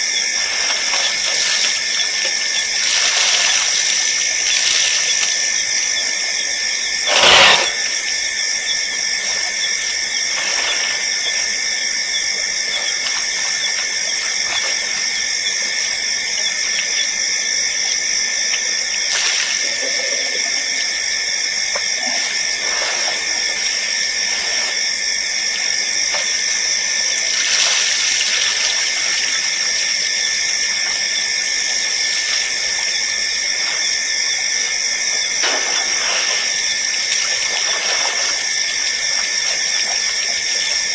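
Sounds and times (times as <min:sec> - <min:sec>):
night insects chorus: 0:00.0 - 0:40.9.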